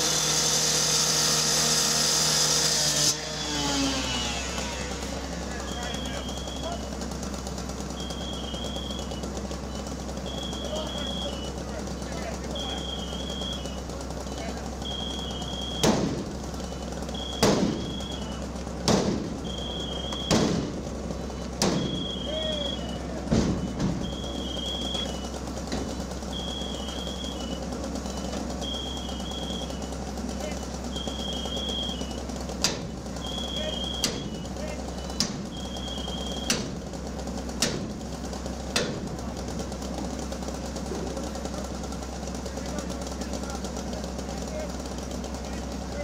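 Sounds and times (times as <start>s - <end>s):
low engine drone: 0.0s - 46.0s.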